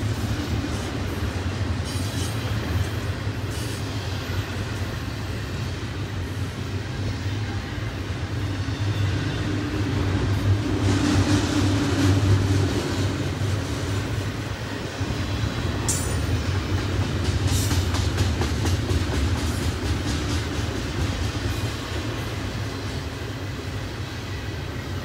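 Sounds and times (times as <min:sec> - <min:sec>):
steel wheels rumbling on rail: 0:00.0 - 0:25.0.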